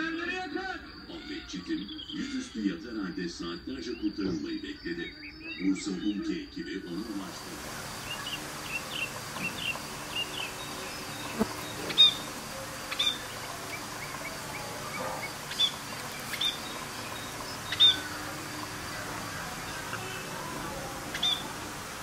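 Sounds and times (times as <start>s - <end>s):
budgerigars chirping: 3.8s - 22.0s.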